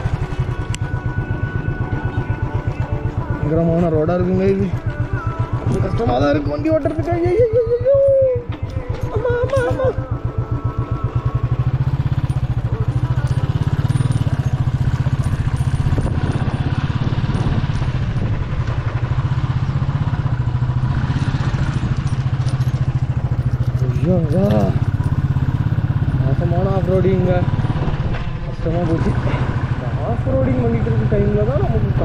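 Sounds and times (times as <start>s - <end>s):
motorcycle engine thumping: 2.6s - 32.0s.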